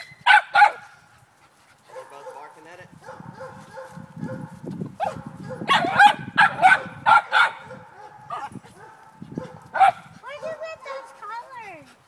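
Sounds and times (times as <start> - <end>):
dogs barking: 0.2 - 1.0, 1.9 - 11.7.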